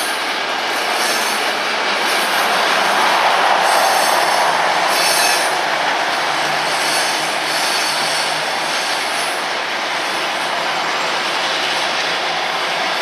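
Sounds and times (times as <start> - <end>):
train wheels rolling on rail: 0.0 - 13.0.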